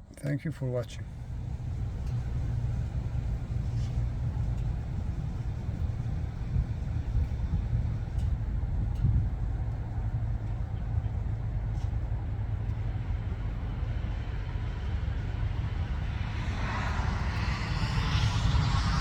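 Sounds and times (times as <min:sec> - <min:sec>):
vehicle running rumble: 0:00.0 - 0:19.0.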